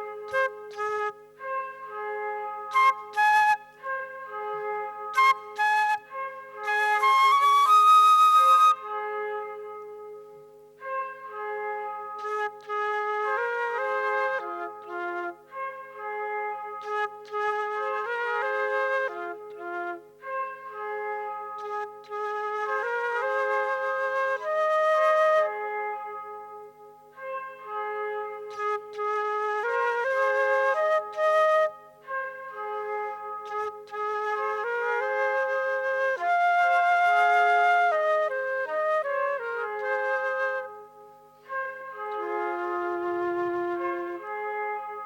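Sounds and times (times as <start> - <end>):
solo flute melody: 0.0 - 45.0.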